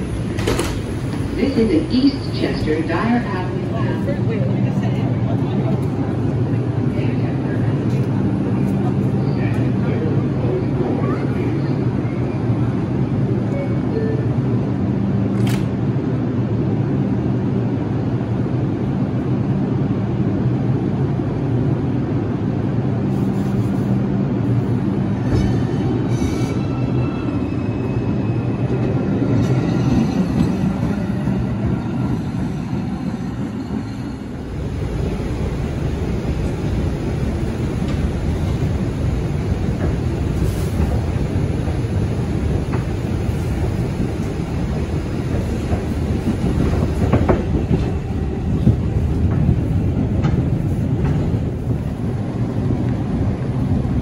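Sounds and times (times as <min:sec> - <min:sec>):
subway train motor and ventilation hum: 0:00.0 - 0:54.0
train running rumble from inside: 0:00.0 - 0:54.0.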